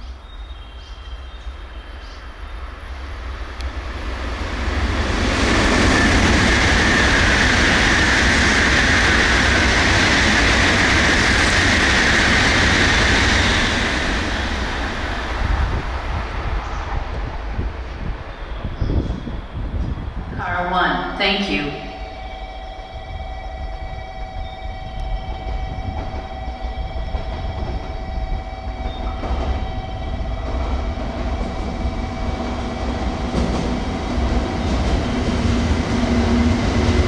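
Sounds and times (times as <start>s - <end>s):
high-speed train rushing past: 0.0s - 37.0s.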